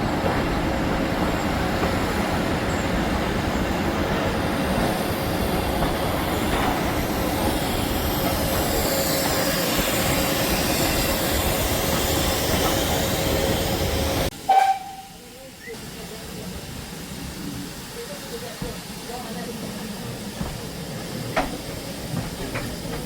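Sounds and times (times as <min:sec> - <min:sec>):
train rumble and rail noise: 0:00.0 - 0:23.0.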